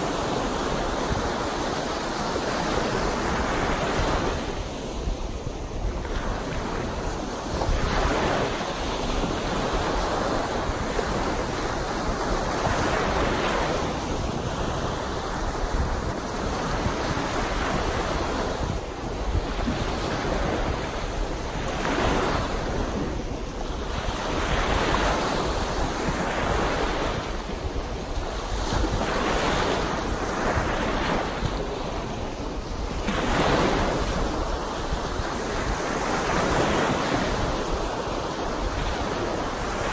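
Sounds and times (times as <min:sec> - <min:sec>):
lake waves washing onto shore: 0:00.0 - 0:39.9
wind noise on microphone: 0:00.0 - 0:39.9.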